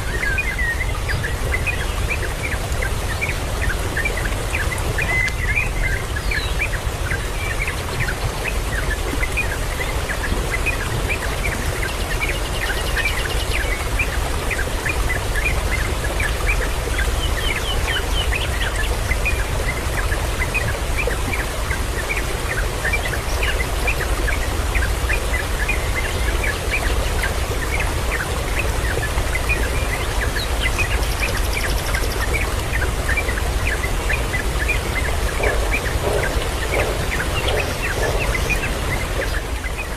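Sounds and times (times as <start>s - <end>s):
birds chirping: 0.0s - 39.9s
rushing background noise: 0.0s - 39.9s.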